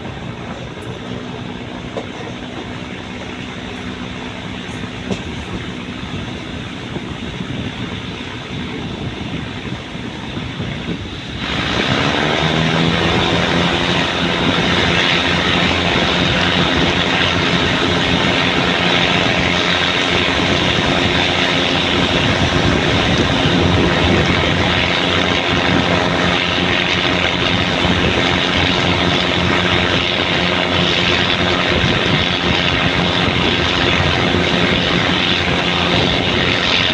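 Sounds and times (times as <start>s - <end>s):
diesel train engine revving: 0.0s - 36.9s.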